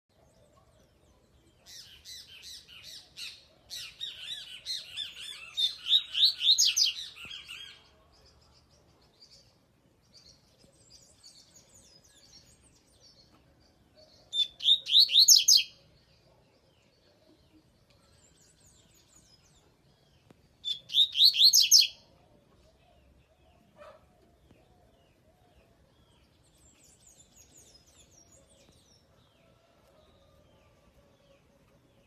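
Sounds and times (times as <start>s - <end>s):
bird twittering song: 0.1s - 29.6s.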